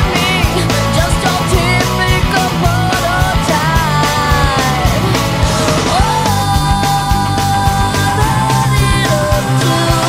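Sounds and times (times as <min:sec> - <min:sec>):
song with drum beat: 0:00.0 - 0:10.0.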